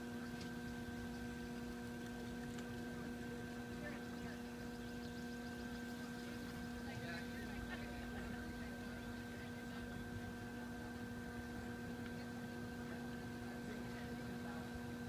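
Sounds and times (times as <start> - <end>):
potter's wheel humming: 0.0 - 15.0.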